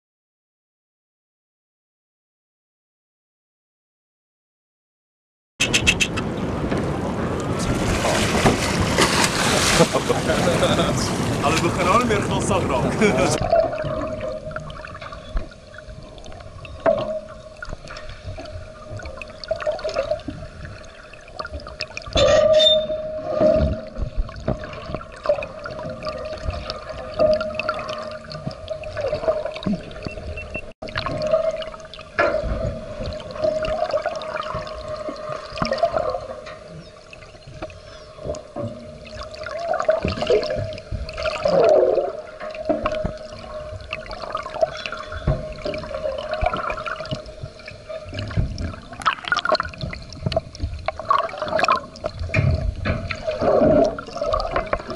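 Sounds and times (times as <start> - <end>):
muffled underwater water sloshing: 5.6 - 54.9.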